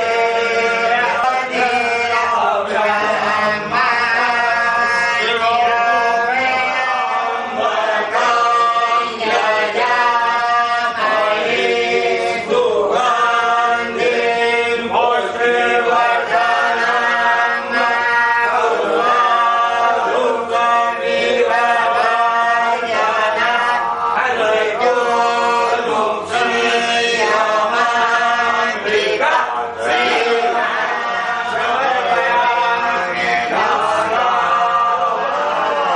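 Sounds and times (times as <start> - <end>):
voices chanting a hymn: 0.0 - 35.9.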